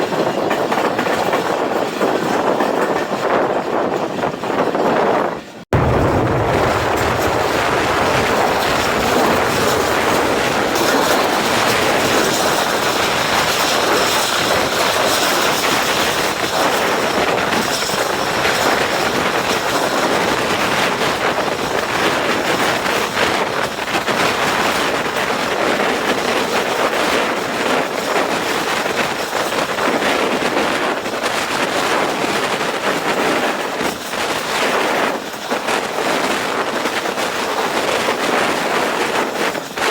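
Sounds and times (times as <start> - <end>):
train rail rumble: 0.0 - 39.9
wheels clacking over rail joints: 0.0 - 39.9.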